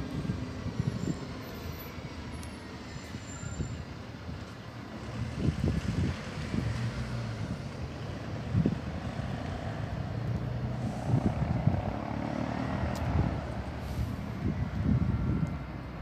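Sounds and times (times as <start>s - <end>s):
minibus engine humming: 0.0s - 16.0s.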